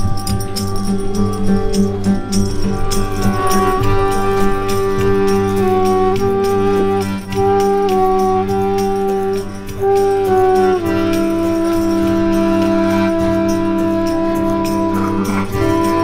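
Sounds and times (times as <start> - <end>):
accordion playing held chords: 0.0 - 16.0.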